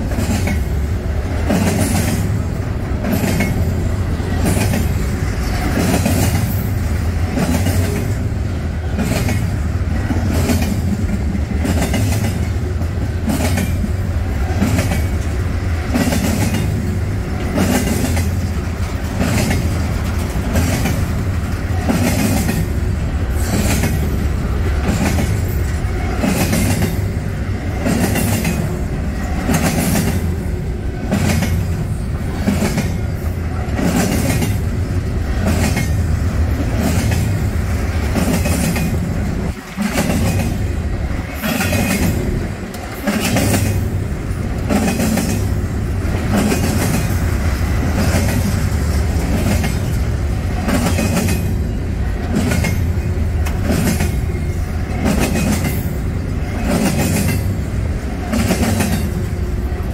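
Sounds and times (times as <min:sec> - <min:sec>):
low train rumble: 0:00.0 - 0:59.9
train wheels clattering over rail joints: 0:00.0 - 0:59.9.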